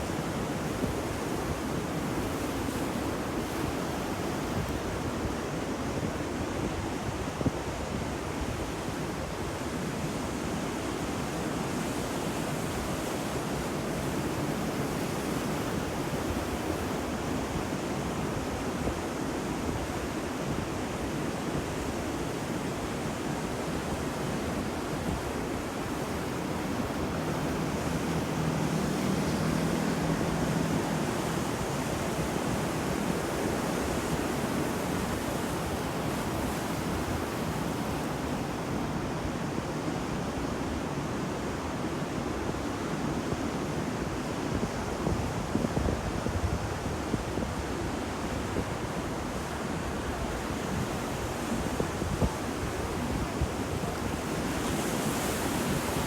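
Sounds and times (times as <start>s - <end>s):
sea waves washing onto shore: 0.0s - 7.4s, 9.0s - 56.0s.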